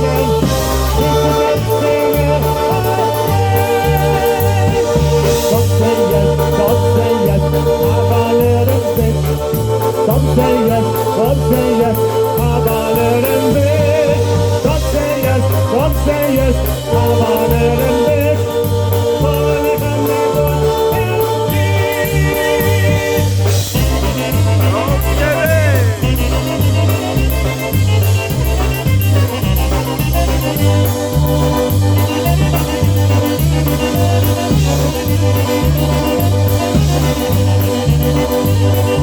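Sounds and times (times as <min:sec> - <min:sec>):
oom-pah bass line: 0:00.0 - 0:39.0
polka band playing: 0:00.0 - 0:39.0.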